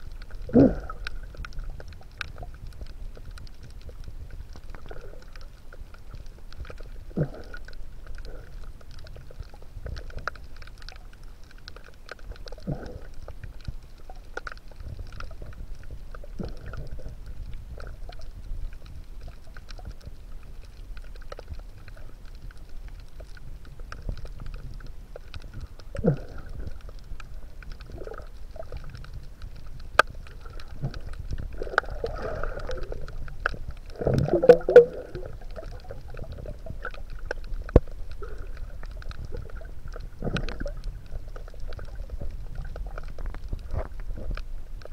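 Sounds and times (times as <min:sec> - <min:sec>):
muffled underwater rumble: 0:00.0 - 0:44.9
underwater clicks and crackles: 0:00.0 - 0:44.9
underwater gurgles: 0:00.0 - 0:44.9.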